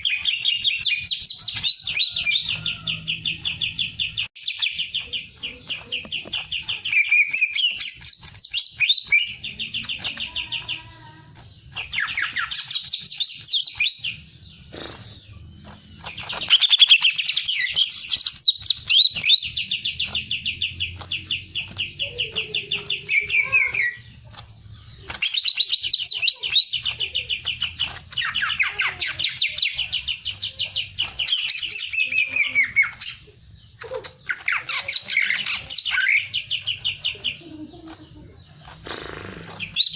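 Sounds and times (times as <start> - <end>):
songbird chirping and whistling: 0.0 - 10.9, 11.6 - 38.8, 39.6 - 39.9.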